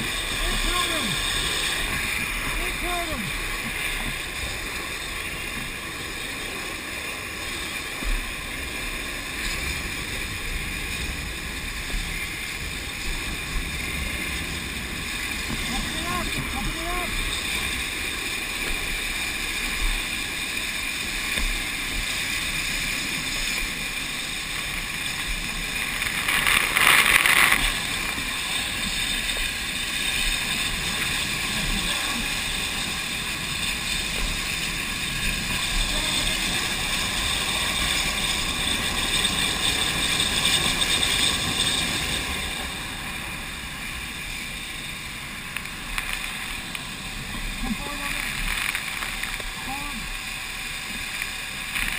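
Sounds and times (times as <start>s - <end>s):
water spray and flame hissing: 0.0s - 51.9s.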